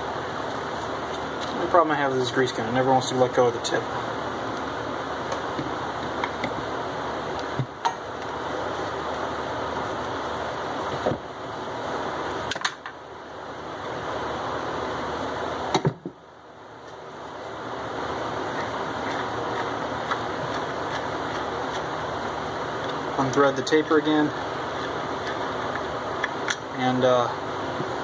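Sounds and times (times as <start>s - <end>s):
shop fan rushing: 0.0s - 28.0s.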